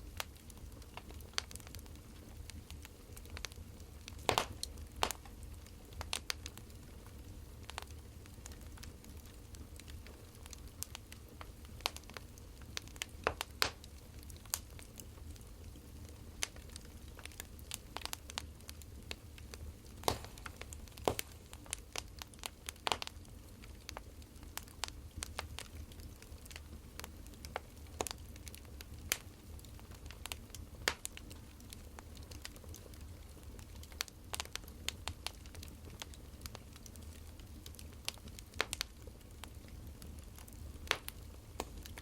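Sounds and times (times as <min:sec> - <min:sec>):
firewood crackling and popping: 0:00.0 - 0:42.0.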